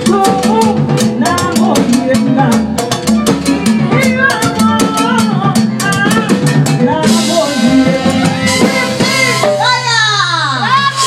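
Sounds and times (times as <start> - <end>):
bass line: 0.0 - 11.0.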